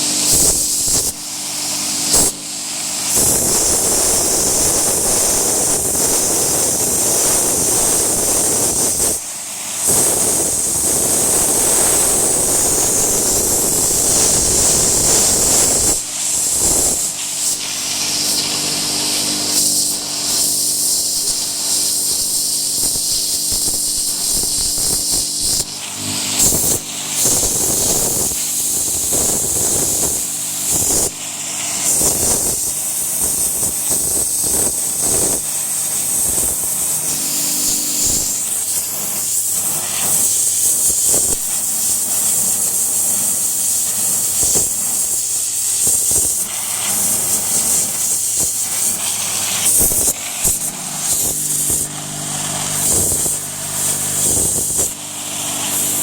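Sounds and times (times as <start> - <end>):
steady machine hum: 0.0 - 40.2, 48.6 - 56.0
pressure washer jet hissing on wood: 0.0 - 56.0.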